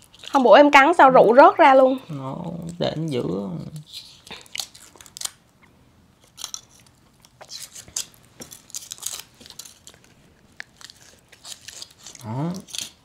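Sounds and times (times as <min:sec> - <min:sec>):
foil wrapper crinkling: 0:00.0 - 0:00.5, 0:01.9 - 0:05.5, 0:06.2 - 0:13.0.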